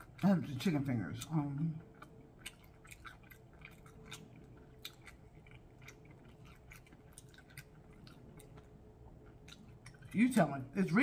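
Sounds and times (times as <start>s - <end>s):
chewing food: 0.0s - 11.0s
faint steady hum: 0.0s - 11.0s.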